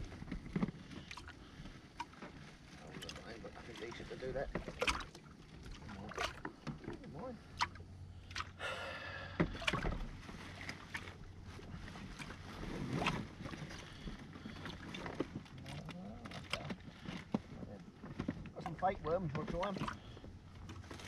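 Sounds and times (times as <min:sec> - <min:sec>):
steady low hum: 0:00.0 - 0:21.0
water lapping against boat hull: 0:00.0 - 0:21.0.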